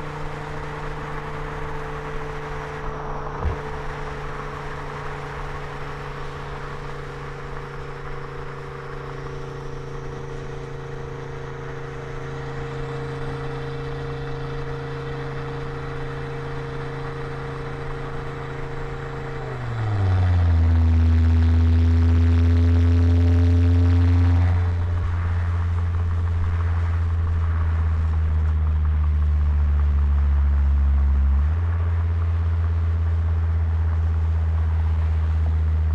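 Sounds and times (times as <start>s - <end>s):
car engine droning: 0.0s - 35.9s
loud low steady sound: 0.0s - 35.9s.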